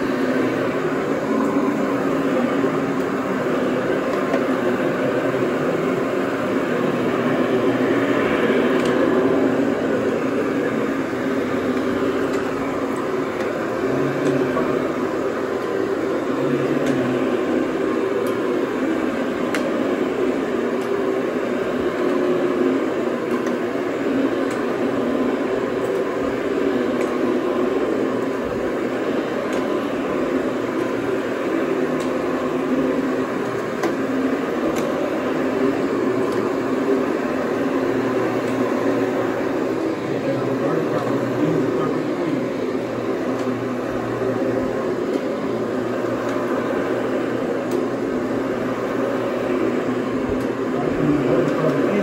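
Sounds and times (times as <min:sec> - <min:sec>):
carpet cleaning machine running: 0:00.0 - 0:52.0.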